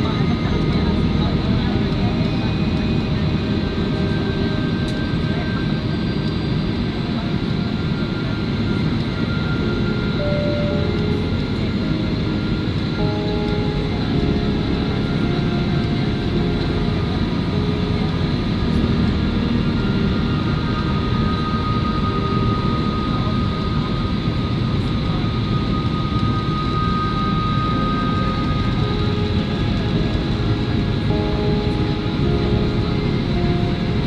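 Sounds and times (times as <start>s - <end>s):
airliner cabin engine rush: 0.0s - 34.0s
faint high whine: 0.0s - 34.0s.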